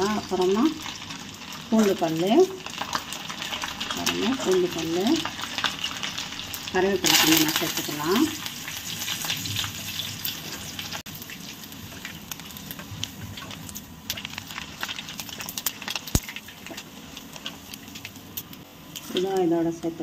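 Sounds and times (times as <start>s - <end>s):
hot oil sizzling and crackling: 0.0s - 20.0s.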